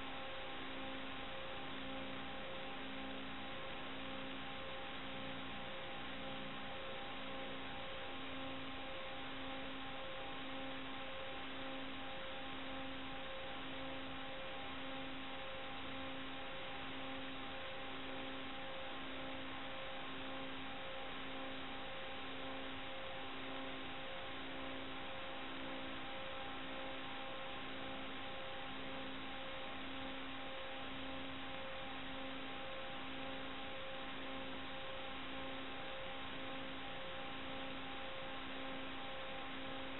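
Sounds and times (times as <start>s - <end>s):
low pulsing buzz tone: 0.0s - 39.9s.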